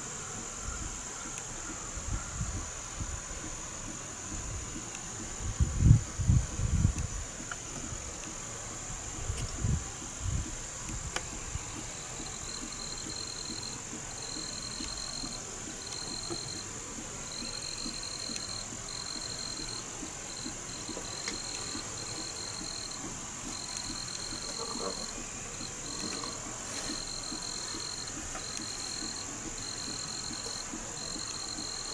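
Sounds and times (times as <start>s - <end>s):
high-pitched insect chorus: 0.0s - 31.9s
lower insect trill: 0.0s - 31.9s.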